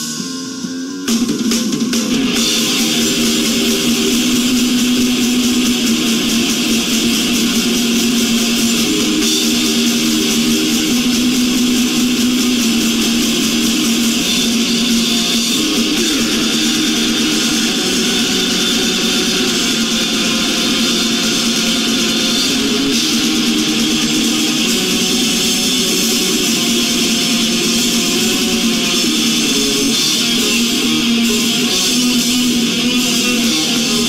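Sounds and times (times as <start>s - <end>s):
metal band playing live: 0.0s - 34.0s.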